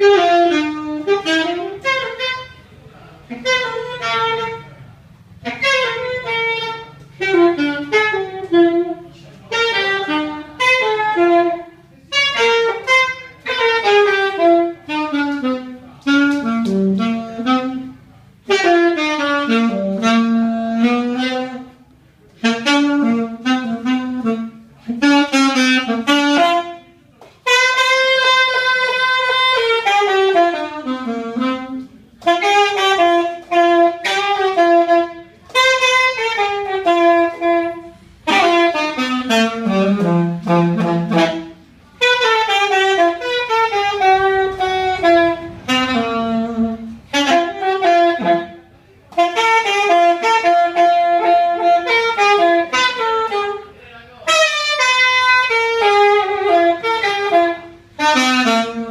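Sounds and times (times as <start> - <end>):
solo alto saxophone melody: 0.0 - 58.9.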